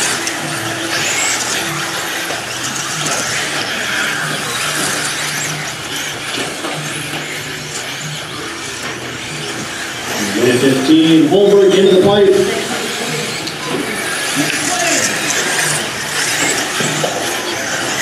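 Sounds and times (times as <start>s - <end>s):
rc car motors whining: 0.0s - 18.0s
tire and track noise: 0.0s - 18.0s.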